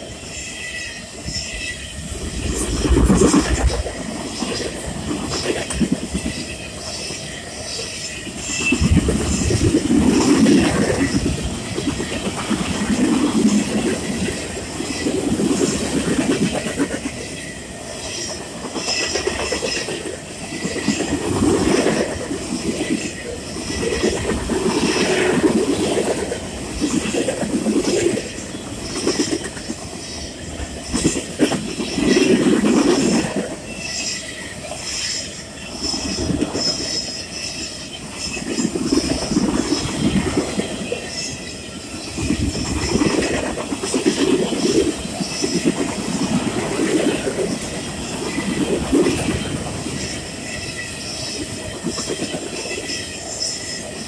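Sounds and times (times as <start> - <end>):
clickety-clack over rail joints: 0.0 - 54.0
train wheels rumbling on rail: 0.0 - 54.0.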